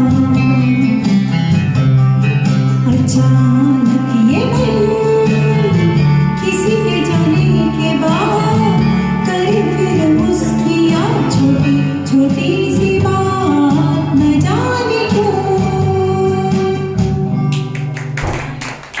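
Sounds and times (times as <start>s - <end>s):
karaoke singing melody: 0.0s - 18.2s
music accompaniment: 0.0s - 19.0s.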